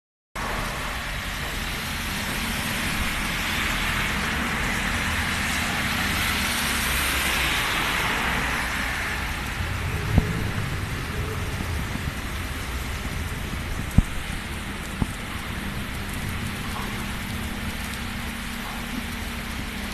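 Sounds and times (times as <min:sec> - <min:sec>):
heavy rain: 0:00.4 - 0:19.9
strong gusting wind: 0:00.4 - 0:19.9.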